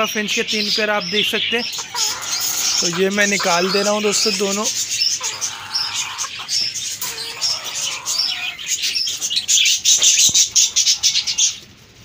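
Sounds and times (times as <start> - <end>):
small birds chirping and chattering: 0.0 - 12.0.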